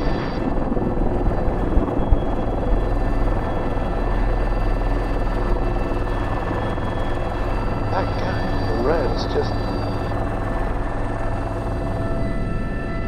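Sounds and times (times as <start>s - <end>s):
helicopter rotor and turbine drone: 0.0s - 13.0s
high whine tones: 0.0s - 13.0s.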